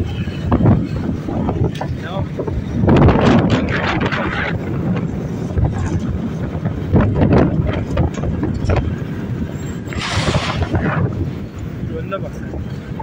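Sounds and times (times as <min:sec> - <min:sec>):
traffic and road noise: 0:00.0 - 0:13.0
wind buffeting microphone: 0:00.0 - 0:13.0.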